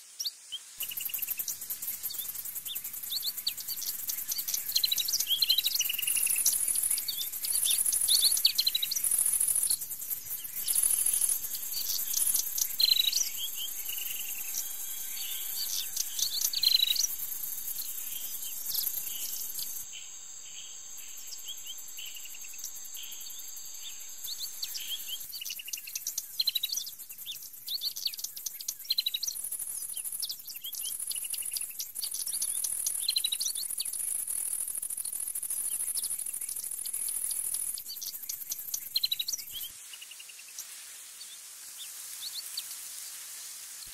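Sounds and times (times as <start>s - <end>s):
insect chorus buzzing: 0.0s - 43.9s.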